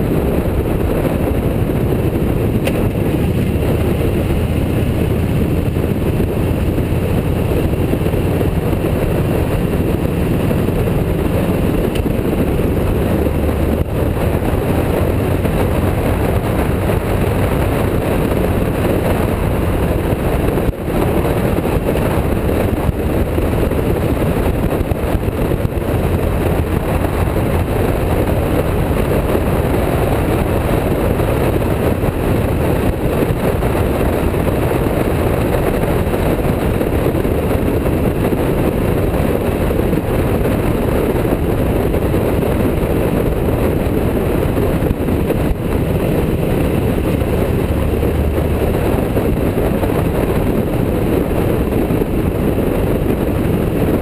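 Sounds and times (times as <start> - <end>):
motorcycle engine rumble: 0.0 - 54.0
wind noise: 0.0 - 54.0.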